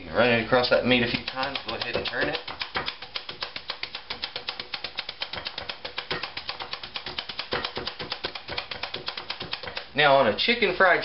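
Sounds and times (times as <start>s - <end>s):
meat tenderizer clicking: 0.9s - 10.0s
knocks on wooden board: 1.1s - 9.9s.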